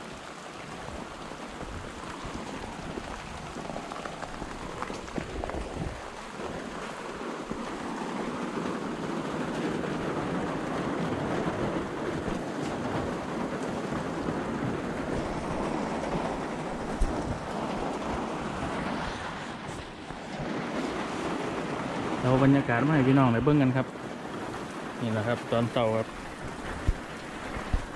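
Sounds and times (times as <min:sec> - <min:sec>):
heavy rain falling: 0:00.0 - 0:27.9
wind: 0:00.0 - 0:27.9.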